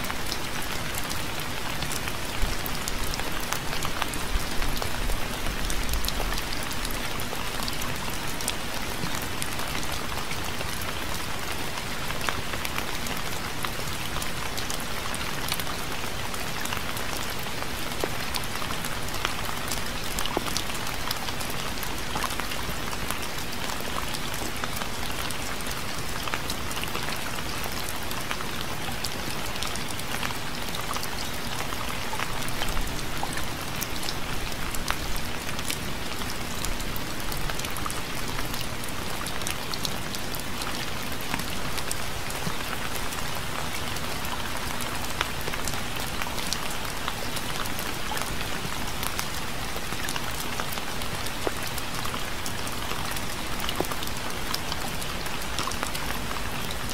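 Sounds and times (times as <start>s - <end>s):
rain drops pattering: 0.0s - 56.9s.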